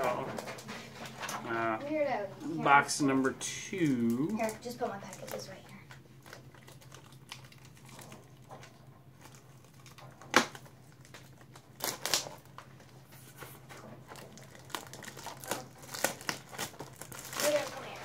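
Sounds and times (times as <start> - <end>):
card pack wrappers crinkling and tearing: 2.6 - 18.0.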